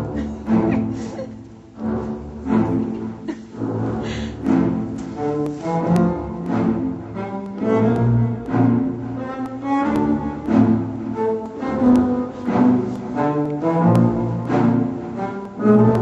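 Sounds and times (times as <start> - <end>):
slow melody on bowed strings: 0.0 - 16.0.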